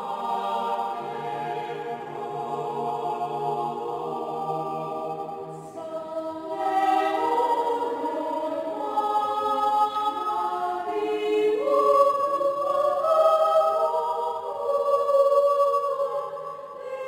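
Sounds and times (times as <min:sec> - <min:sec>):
mixed choir singing in harmony: 0:00.0 - 0:17.0.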